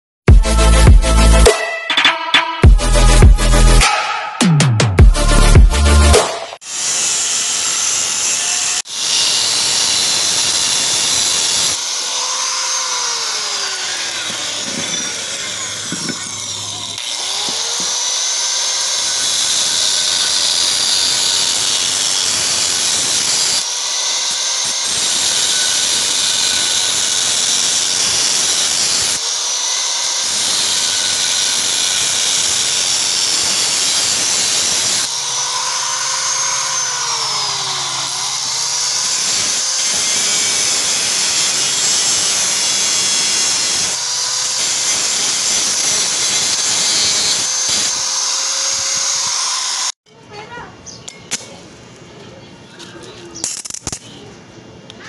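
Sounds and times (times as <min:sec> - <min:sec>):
angle grinder cutting metal: 0:02.6 - 0:04.6, 0:05.2 - 0:50.0.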